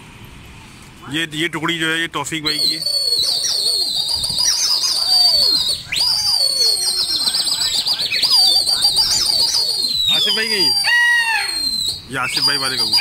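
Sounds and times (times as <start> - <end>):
shrill human whistle with trills: 2.5 - 13.0.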